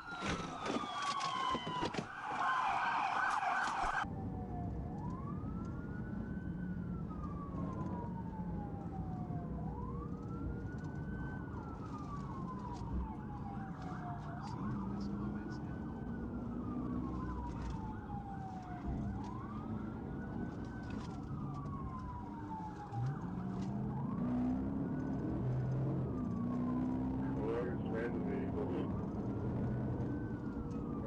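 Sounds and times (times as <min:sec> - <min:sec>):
police siren wailing: 0:00.0 - 0:31.0
road and engine noise: 0:00.0 - 0:31.0.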